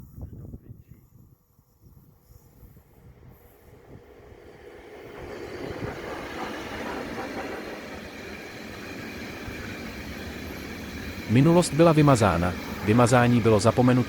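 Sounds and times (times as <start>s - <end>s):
electric locomotive passing on rails: 0.0s - 14.0s.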